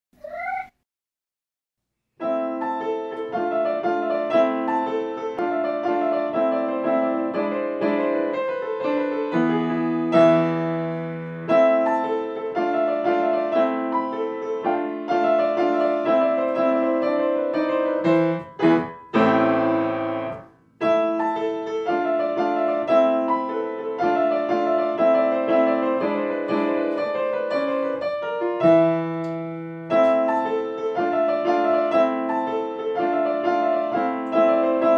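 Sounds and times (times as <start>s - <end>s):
solo piano music: 2.2s - 34.9s.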